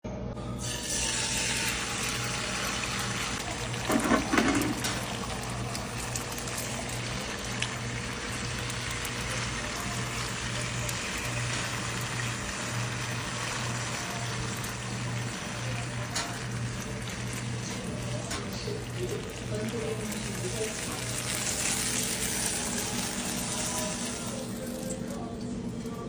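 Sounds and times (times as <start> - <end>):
eggs sizzling in hot oil: 0.6 - 25.2.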